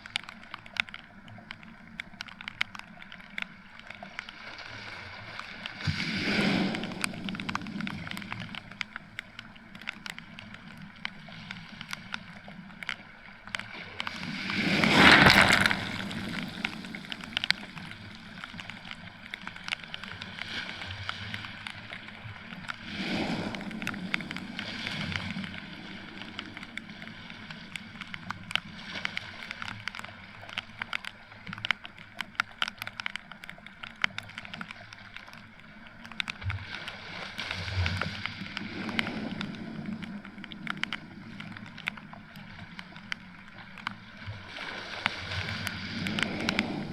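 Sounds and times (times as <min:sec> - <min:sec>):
raindrops ticking on camera: 0:00.0 - 0:46.9
small waves washing ashore: 0:00.0 - 0:46.9.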